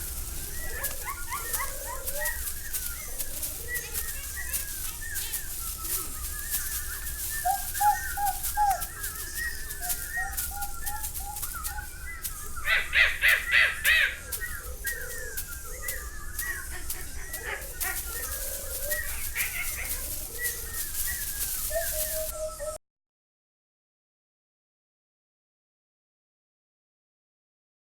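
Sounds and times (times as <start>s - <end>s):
bird chirps and whistled calls: 0.0s - 22.8s.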